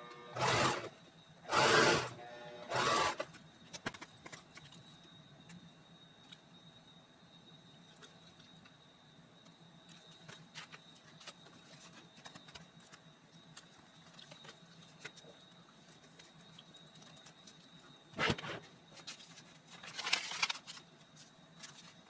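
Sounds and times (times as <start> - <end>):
faint high whine: 0.0 - 22.0.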